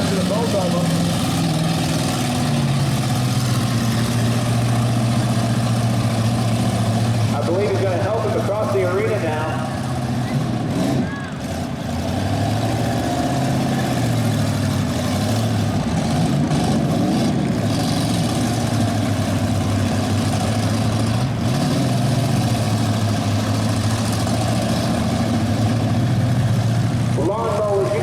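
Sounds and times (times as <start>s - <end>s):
car engines revving together: 0.0s - 28.0s.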